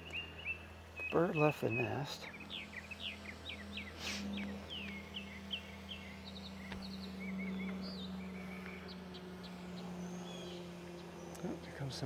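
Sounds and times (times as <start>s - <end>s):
songbirds chirping: 0.0s - 12.0s
steady low hum: 0.0s - 12.0s.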